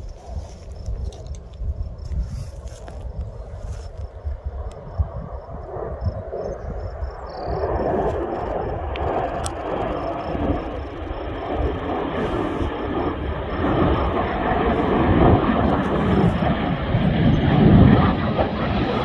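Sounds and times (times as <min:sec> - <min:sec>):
jet engines rumbling past: 0:00.0 - 0:19.0.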